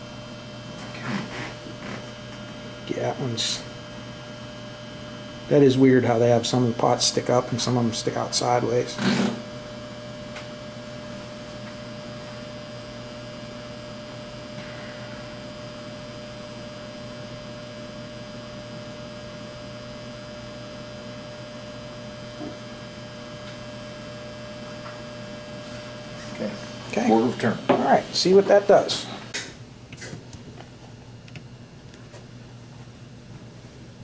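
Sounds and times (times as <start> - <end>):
electrical mains hum: 0.0 - 34.0
thin steady whine: 0.0 - 34.0.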